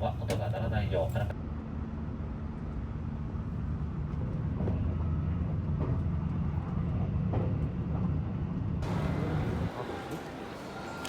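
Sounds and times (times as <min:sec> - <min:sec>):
train rumbling: 0:02.1 - 0:11.0.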